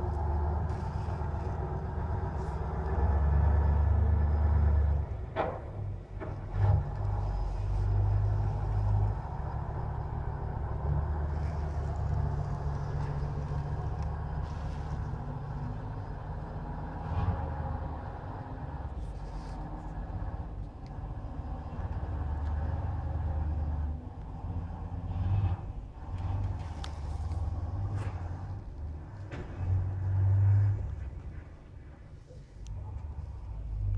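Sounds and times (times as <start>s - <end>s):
truck diesel engine rumbling: 0.0s - 33.9s.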